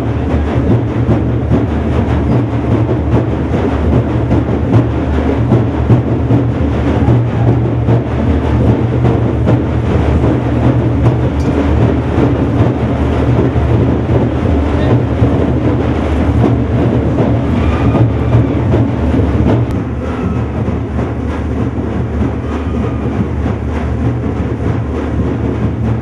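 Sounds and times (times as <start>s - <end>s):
frame drums beaten with sticks: 0.0s - 26.0s.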